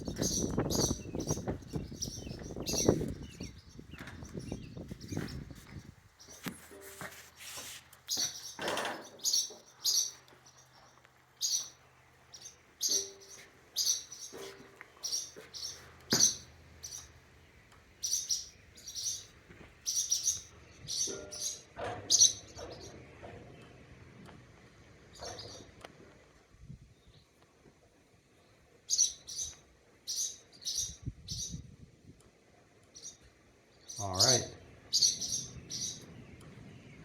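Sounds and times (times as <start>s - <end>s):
swallows chirping: 0.0s - 6.5s, 7.6s - 23.9s, 24.7s - 25.8s, 28.3s - 31.7s, 32.9s - 37.0s.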